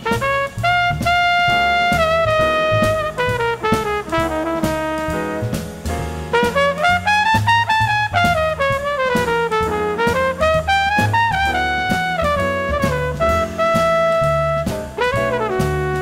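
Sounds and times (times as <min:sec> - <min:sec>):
double bass: 0:00.0 - 0:16.0
drum kit cymbals: 0:00.0 - 0:16.0
jazz trumpet melody: 0:00.0 - 0:16.0.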